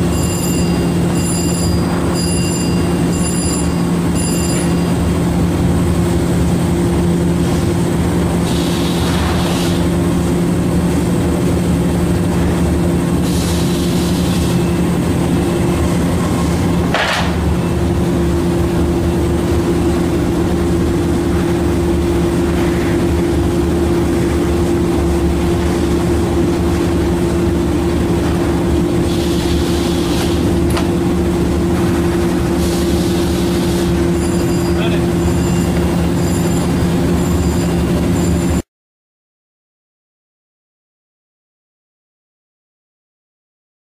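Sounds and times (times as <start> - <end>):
factory machinery humming: 0.0 - 38.6.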